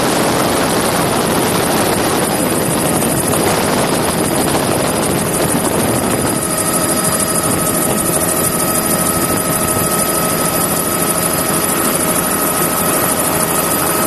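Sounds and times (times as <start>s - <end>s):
helicopter rotor chop: 0.0s - 14.0s
turbine whine: 0.0s - 14.0s.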